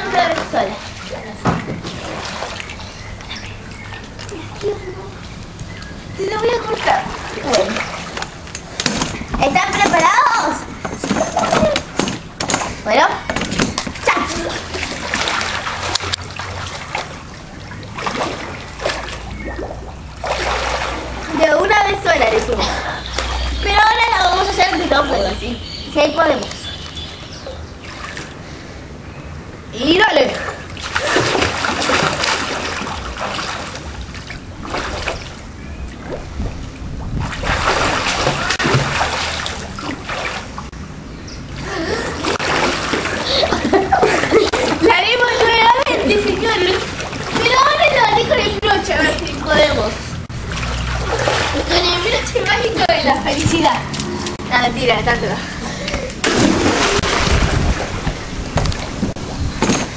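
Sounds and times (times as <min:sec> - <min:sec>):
pool water splashing: 0:00.0 - 0:59.9.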